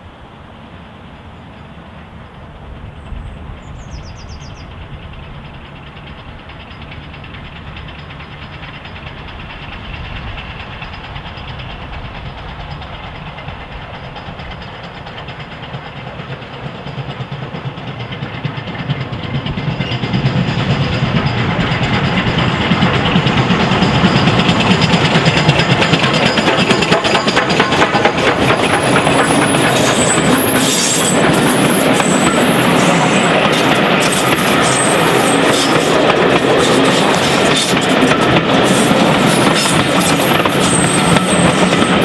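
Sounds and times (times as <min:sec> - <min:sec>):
steam locomotive approaching: 0:00.0 - 0:42.0.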